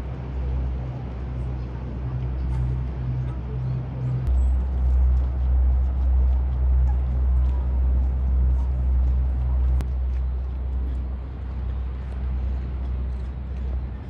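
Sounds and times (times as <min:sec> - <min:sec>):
boat engine rumble: 0:00.0 - 0:14.0.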